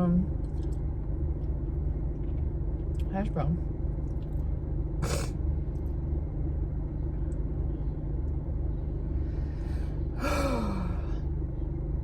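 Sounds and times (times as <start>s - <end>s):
air conditioning running: 0.0s - 12.0s.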